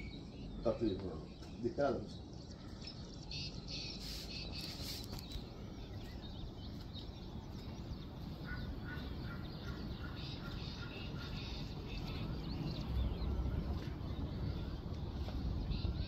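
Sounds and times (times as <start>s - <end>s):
low steady background noise: 0.0s - 16.0s
small birds chirping: 0.0s - 16.0s.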